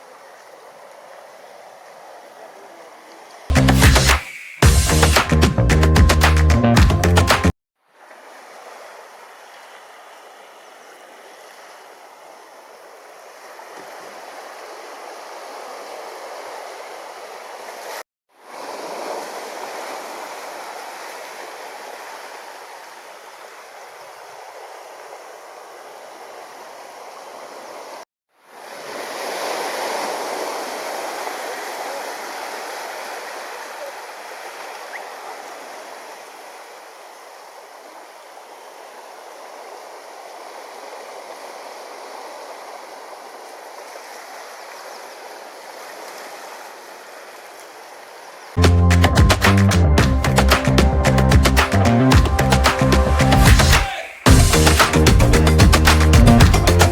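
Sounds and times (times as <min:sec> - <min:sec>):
ocean surf washing ashore: 0:03.8 - 0:05.4, 0:07.3 - 0:48.6, 0:51.6 - 0:56.9.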